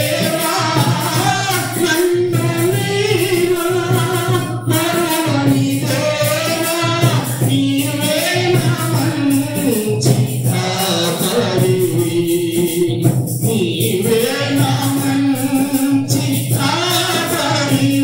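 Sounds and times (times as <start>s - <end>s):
instrumental accompaniment: 0.0s - 18.0s
person singing devotional song: 0.0s - 18.0s.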